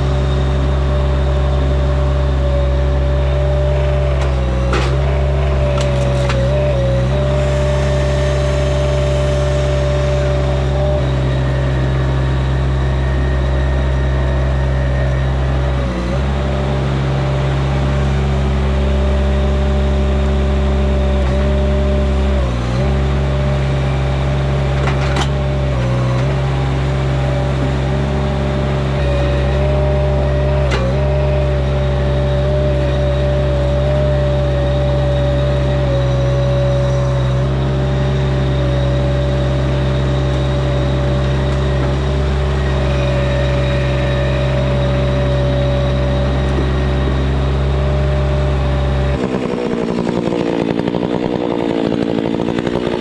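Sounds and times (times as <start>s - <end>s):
machine engine running at high revs: 0.0s - 53.0s.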